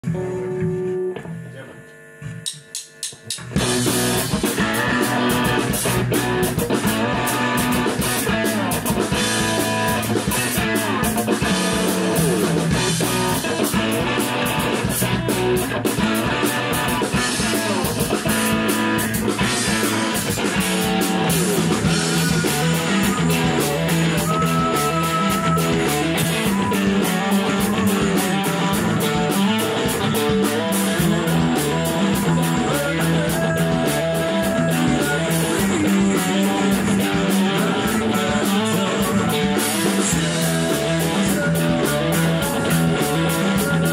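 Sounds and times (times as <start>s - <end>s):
rock band playing: 0.0s - 1.4s, 3.0s - 43.9s
electric guitars: 0.0s - 1.6s, 3.3s - 43.9s
drum kit: 0.0s - 43.9s.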